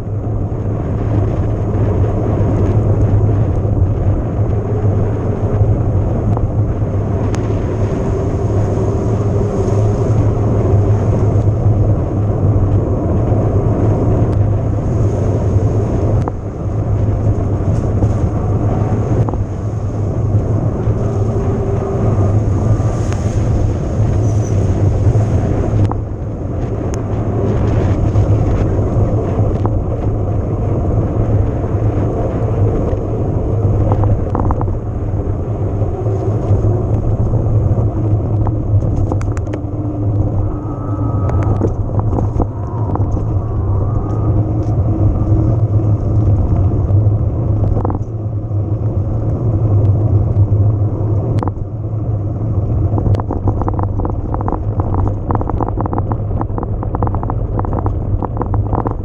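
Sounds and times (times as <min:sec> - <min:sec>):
wind and rolling tyres rumble: 0:00.0 - 0:59.0.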